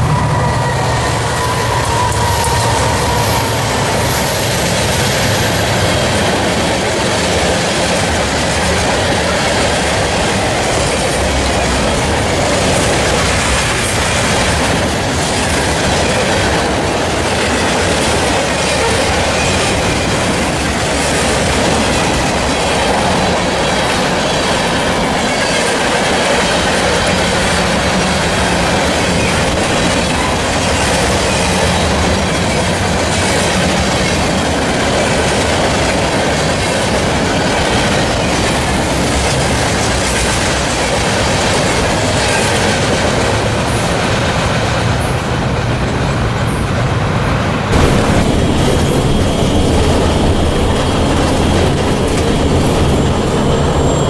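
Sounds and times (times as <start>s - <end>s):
train wheels clattering over rails: 0.0s - 54.0s.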